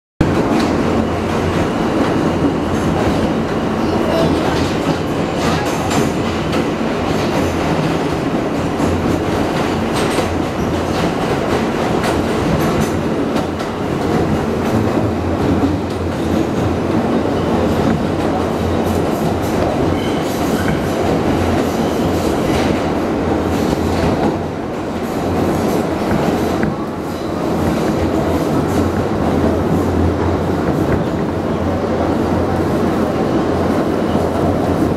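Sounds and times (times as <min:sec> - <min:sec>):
second train running alongside: 0:00.2 - 0:34.9
train wheels rumbling on rail: 0:00.2 - 0:34.9.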